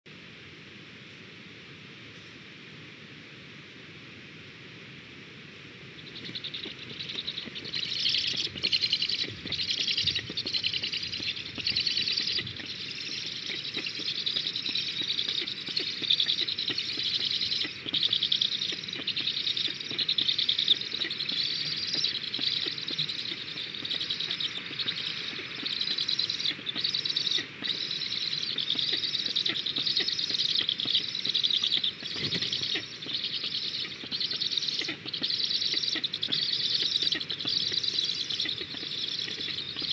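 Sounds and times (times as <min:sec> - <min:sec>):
stork nestlings begging calls: 0:06.1 - 0:39.9.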